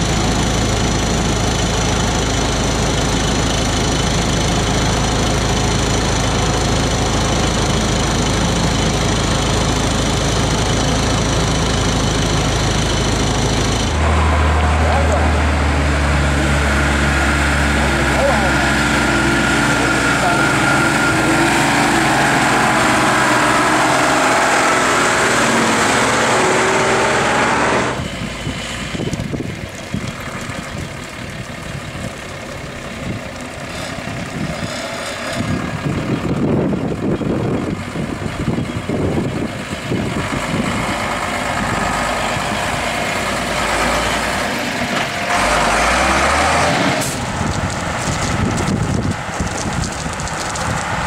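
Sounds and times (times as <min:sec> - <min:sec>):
diesel truck engine: 0:00.0 - 0:51.0
truck passing close: 0:00.0 - 0:51.0
uneven truck engine noise: 0:00.0 - 0:51.0.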